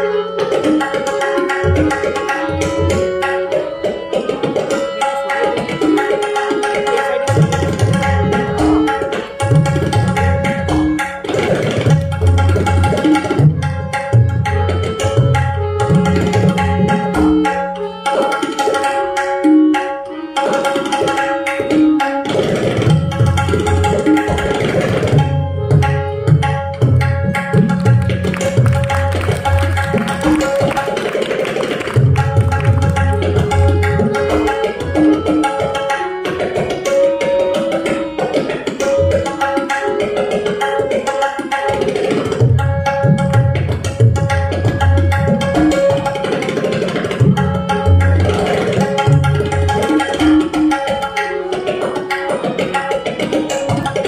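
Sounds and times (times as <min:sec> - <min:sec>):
harmonium repeating melody: 0:00.0 - 0:54.0
tabla drumming: 0:00.0 - 0:54.0.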